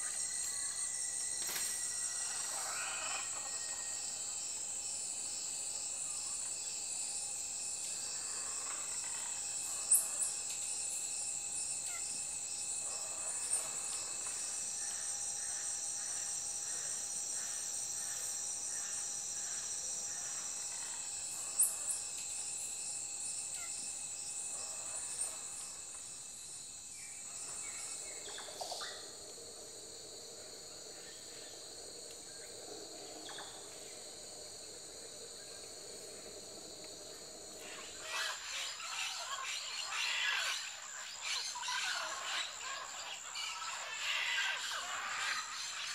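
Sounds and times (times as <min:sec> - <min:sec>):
insect chorus with trills: 0:00.0 - 0:45.9.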